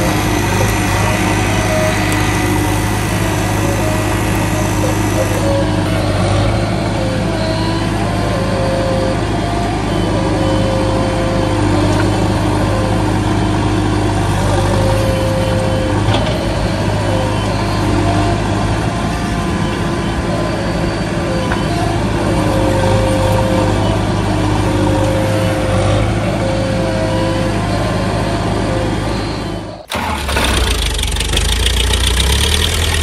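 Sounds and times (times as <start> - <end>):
heavy engine running: 0.0 - 33.0.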